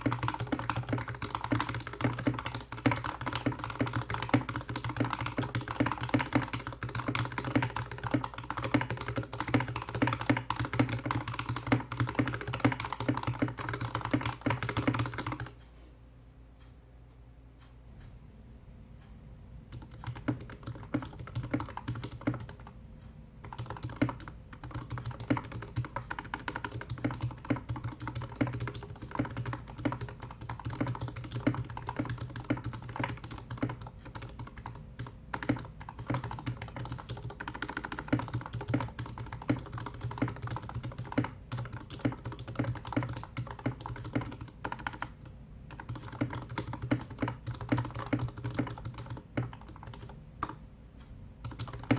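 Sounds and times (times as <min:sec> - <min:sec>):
slow mechanical keyboard typing: 0:00.0 - 0:15.8, 0:19.0 - 0:51.9.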